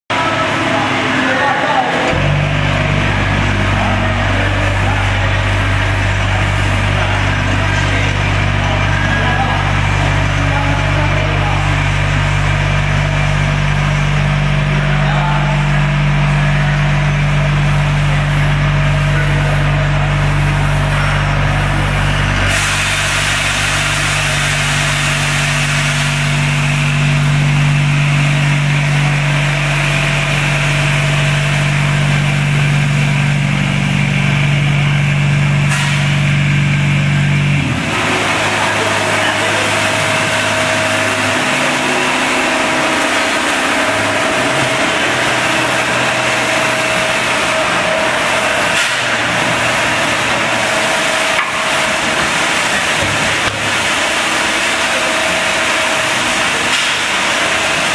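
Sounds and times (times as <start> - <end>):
packing machine humming: 0.1 - 57.9.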